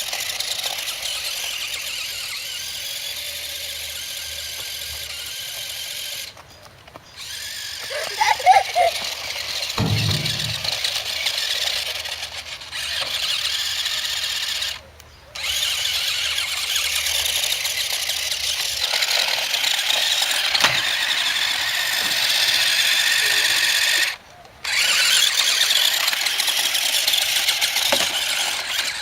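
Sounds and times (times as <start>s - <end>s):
toy motor high-pitched whine: 0.0s - 6.4s, 7.2s - 9.8s, 11.8s - 14.8s, 15.4s - 29.0s.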